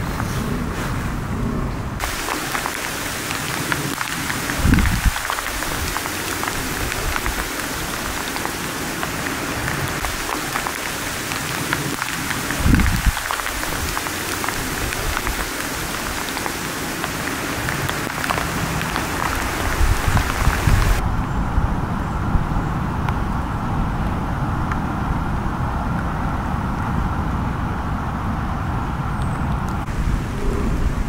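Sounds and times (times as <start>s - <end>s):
steady rain falling: 1.9s - 31.0s.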